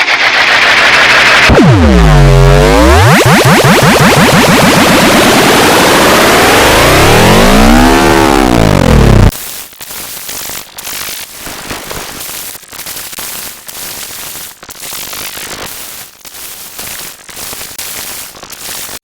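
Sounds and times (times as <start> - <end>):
harsh crackling static: 0.0 - 19.0.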